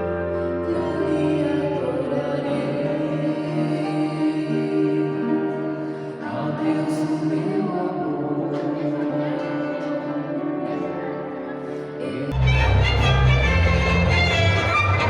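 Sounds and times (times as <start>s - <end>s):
music of long held chords: 0.0s - 15.0s.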